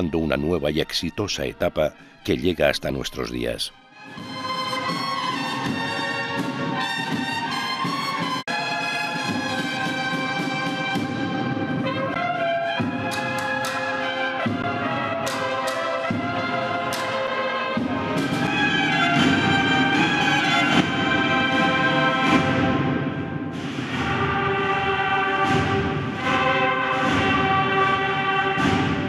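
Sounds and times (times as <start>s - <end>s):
brass band playing: 4.1s - 29.0s.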